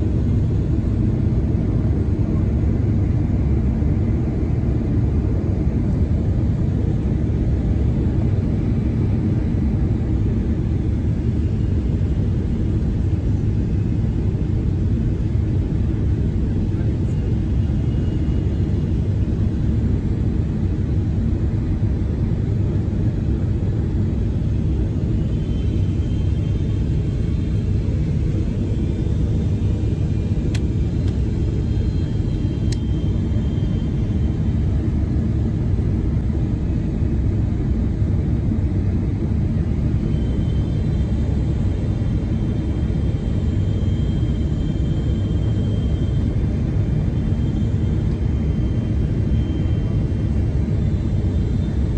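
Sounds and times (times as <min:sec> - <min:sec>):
aircraft cabin rumble: 0:00.0 - 0:51.9
faint high whine: 0:00.0 - 0:51.9.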